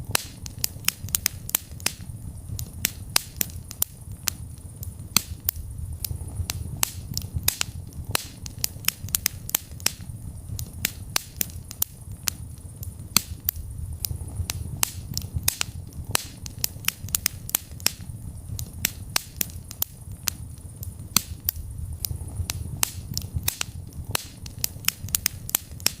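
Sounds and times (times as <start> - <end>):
low rumble of flames: 0.0 - 26.0
wood fire crackling and popping: 0.0 - 26.0.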